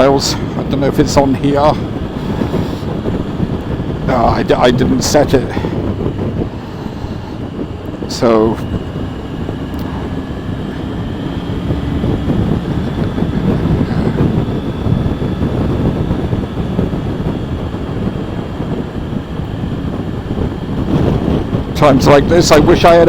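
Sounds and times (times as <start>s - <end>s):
motorcycle engine low rumble: 0.0s - 23.0s
wind rushing over microphone: 0.0s - 23.0s.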